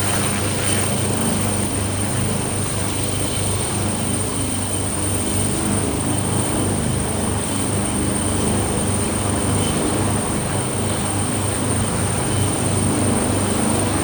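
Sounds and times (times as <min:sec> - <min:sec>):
helicopter engines and rotor: 0:00.0 - 0:14.0.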